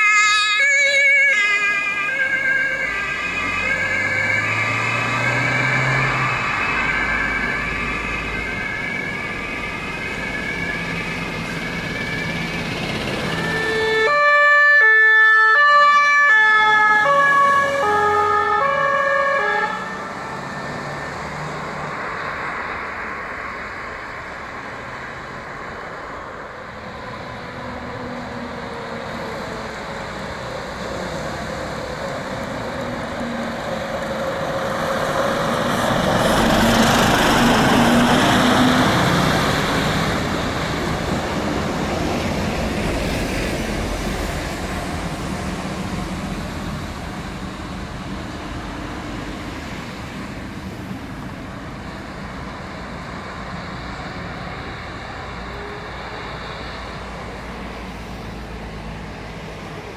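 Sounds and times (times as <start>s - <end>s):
fire truck driving past: 0.0s - 59.9s.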